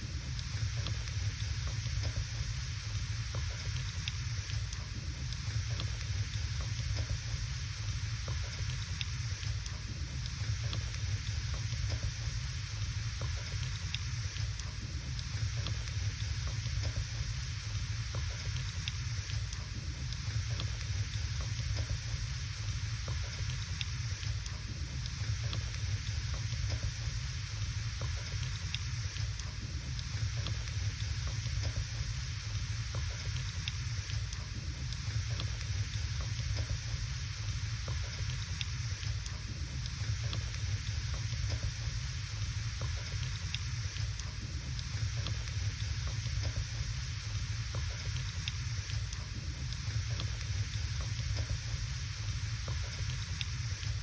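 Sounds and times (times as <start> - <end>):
fire hissing: 0.0 - 54.0
wood fire crackling: 0.0 - 54.0.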